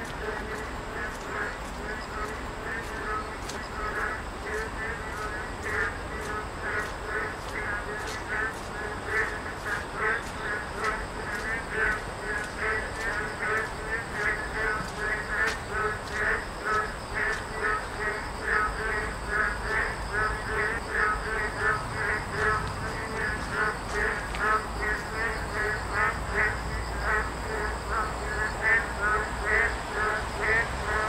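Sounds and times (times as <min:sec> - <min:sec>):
frogs croaking: 0:00.0 - 0:31.0.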